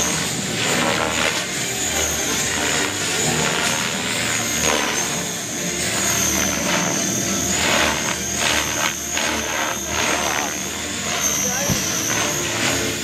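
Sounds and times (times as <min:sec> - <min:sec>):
rc helicopter high whine: 0:00.0 - 0:13.0
rotor noise: 0:00.0 - 0:13.0.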